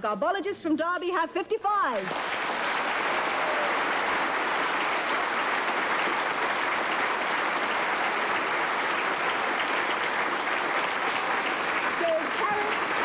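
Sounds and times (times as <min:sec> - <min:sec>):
audience applauding: 0:02.1 - 0:13.0.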